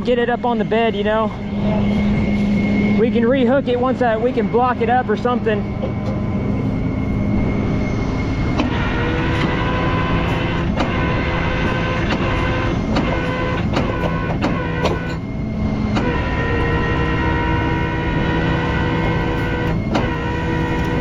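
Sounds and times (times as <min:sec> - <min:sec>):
hydraulic system whining: 0:00.0 - 0:21.0
truck engine running: 0:00.0 - 0:21.0.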